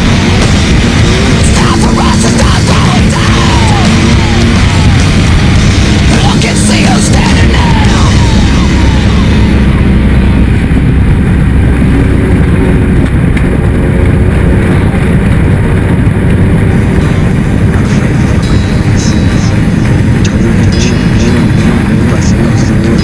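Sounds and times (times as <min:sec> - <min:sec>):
heavy rock music: 0:00.0 - 0:23.0
race vehicle engine running: 0:00.0 - 0:23.0.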